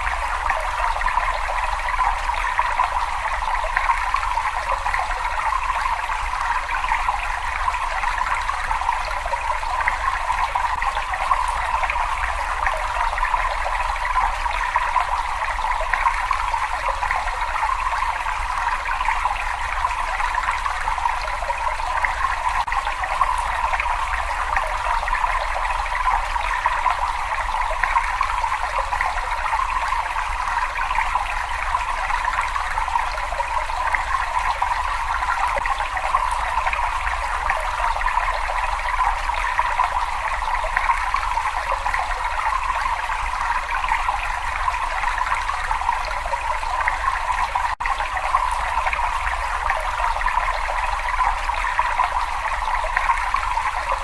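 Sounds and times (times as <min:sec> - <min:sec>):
running water trickling: 0:00.0 - 0:54.0.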